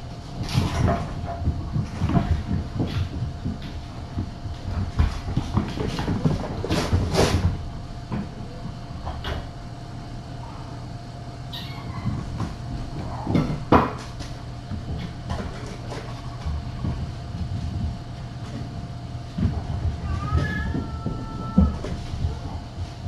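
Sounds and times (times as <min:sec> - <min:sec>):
steady low hum: 0:00.0 - 0:23.0
kittens scampering and wrestling: 0:00.2 - 0:09.5, 0:11.4 - 0:23.0.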